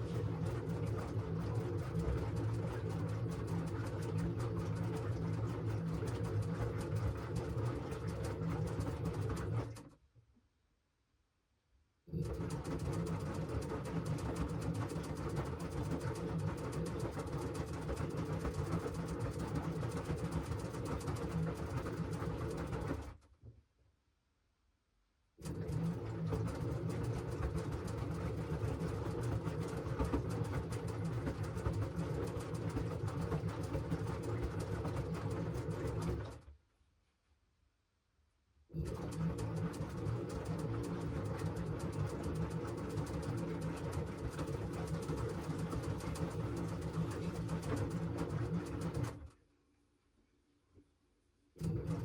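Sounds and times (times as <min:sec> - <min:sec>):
washing machine drum churning: 0:00.0 - 0:09.8, 0:12.2 - 0:23.0, 0:25.4 - 0:36.4, 0:38.8 - 0:49.2.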